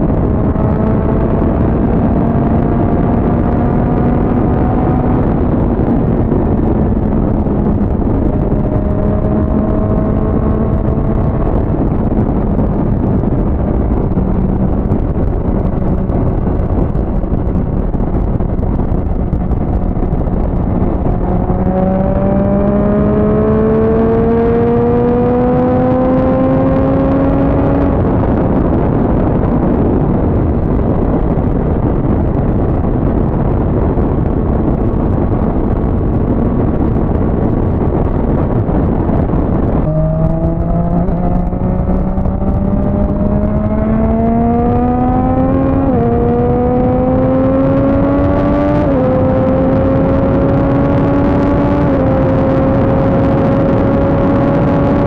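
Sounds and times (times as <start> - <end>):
motorcycle engine accelerating: 0.0 - 55.0
wind rush: 0.0 - 55.0.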